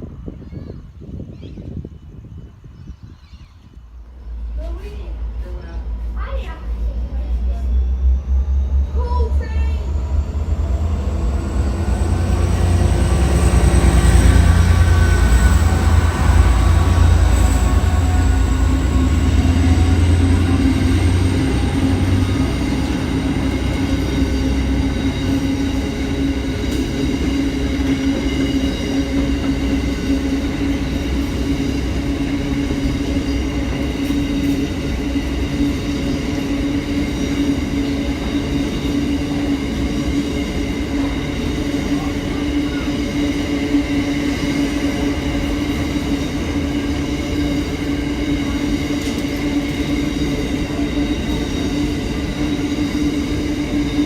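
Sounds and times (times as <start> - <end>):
train rumbling: 0.0 - 54.0
wheels squealing on rails: 0.0 - 54.0.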